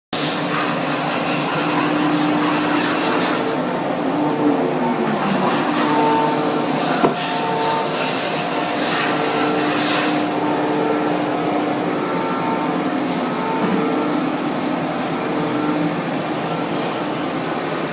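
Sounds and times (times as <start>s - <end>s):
coolant and air hissing: 0.2s - 17.9s
machine hums: 0.8s - 17.9s.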